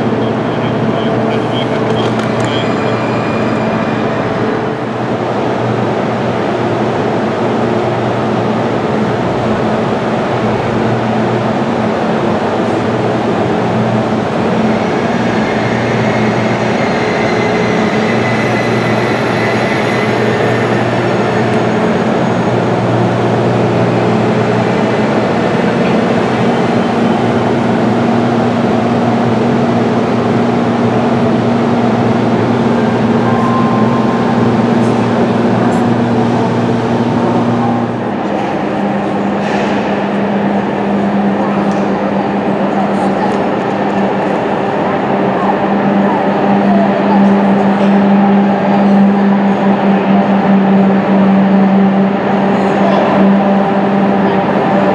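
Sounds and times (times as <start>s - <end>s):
electric train hum and rumble: 0.0s - 54.9s.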